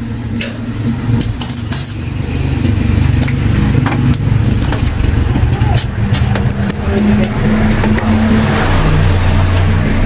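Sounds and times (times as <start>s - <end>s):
engine low rumble: 0.0s - 10.0s.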